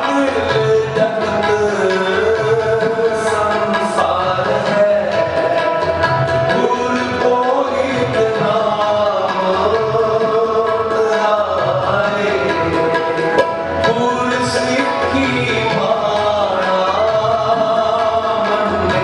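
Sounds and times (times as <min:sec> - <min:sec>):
harmoniums playing melody: 0:00.0 - 0:19.0
tabla rhythm: 0:00.0 - 0:19.0.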